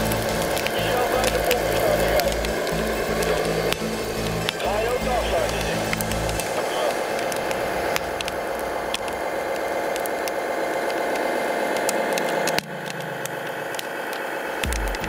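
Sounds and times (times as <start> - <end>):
crackling clicks: 0.0 - 15.0
motor winding down: 0.0 - 15.0
small motor humming: 0.0 - 15.0.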